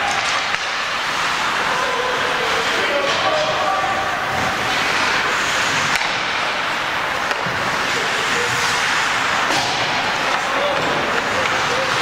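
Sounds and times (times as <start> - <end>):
hockey play and crowd noise: 0.0 - 12.0.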